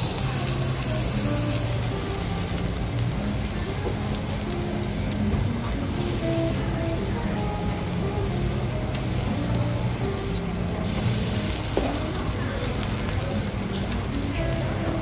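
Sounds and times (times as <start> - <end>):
food frying on griddle: 0.0 - 15.0
soft background music: 0.0 - 15.0.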